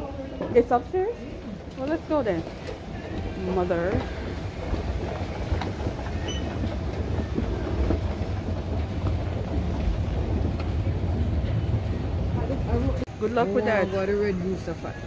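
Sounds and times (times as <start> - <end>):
escalator mechanical rumble: 0.0 - 15.0.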